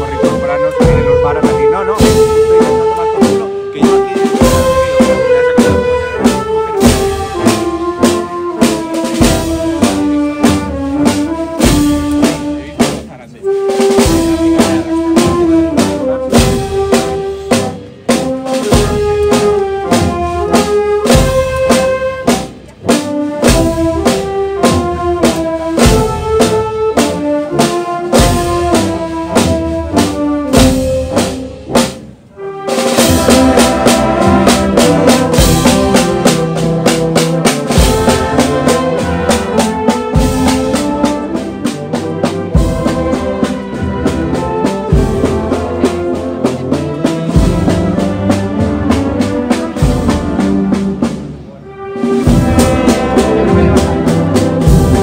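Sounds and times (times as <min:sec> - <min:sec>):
brass band playing a slow march: 0:00.0 - 0:55.0
steady drum beat: 0:00.0 - 0:55.0.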